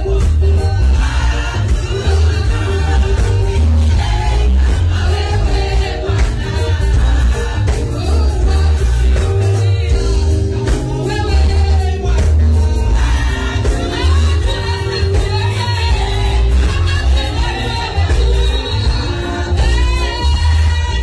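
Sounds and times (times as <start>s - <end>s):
amplified accompaniment with deep bass: 0.0s - 21.0s
women singing gospel song: 0.0s - 21.0s.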